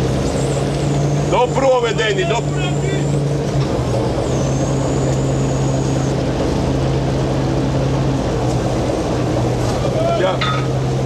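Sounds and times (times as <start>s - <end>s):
diesel engines droning: 0.0s - 11.0s
sea water washing along hull: 0.0s - 11.0s.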